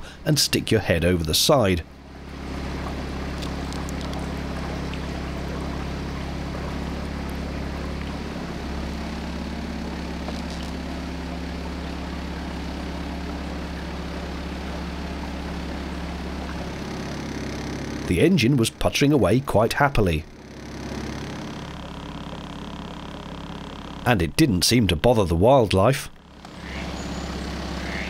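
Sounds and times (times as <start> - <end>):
outboard motor puttering: 0.0 - 28.0.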